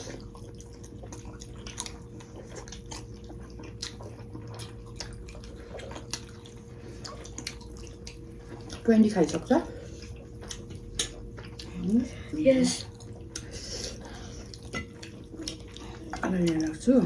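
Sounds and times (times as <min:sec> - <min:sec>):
close-miked chewing: 0:00.0 - 0:17.0
faint steady hum: 0:00.0 - 0:17.0.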